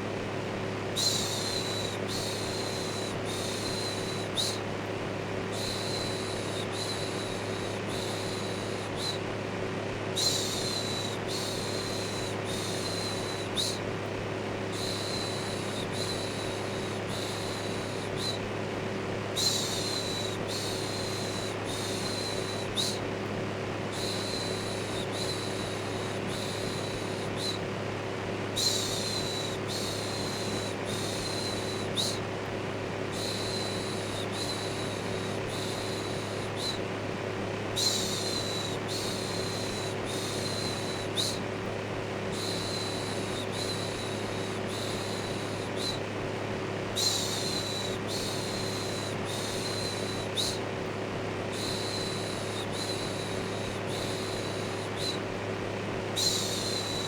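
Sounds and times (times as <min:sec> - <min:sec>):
electric fan humming: 0:00.0 - 0:57.0.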